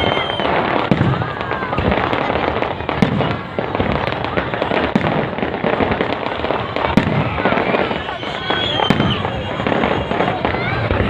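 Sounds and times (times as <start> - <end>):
firework whistle: 0.0 - 3.0, 3.9 - 11.0
fireworks bangs and crackling: 0.0 - 11.0.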